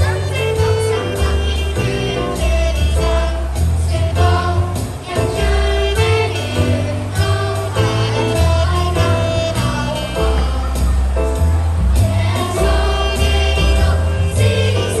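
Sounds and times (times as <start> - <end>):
backing music with bass and beat: 0.0 - 15.0
children's choir singing: 0.0 - 15.0.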